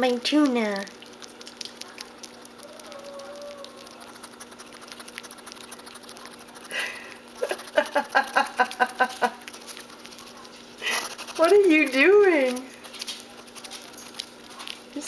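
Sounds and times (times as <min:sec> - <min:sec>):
hedgehog chewing and smacking: 0:00.0 - 0:15.0.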